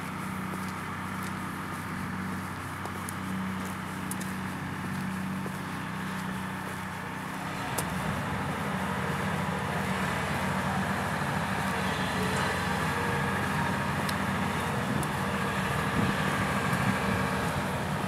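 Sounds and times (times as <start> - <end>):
large engine running: 0.0 - 18.0.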